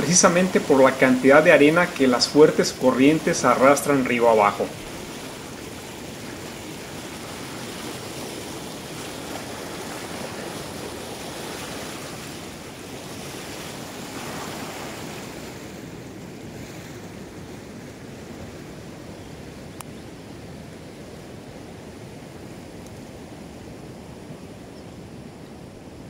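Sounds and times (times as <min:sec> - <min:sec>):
river current rushing: 0:00.0 - 0:24.6.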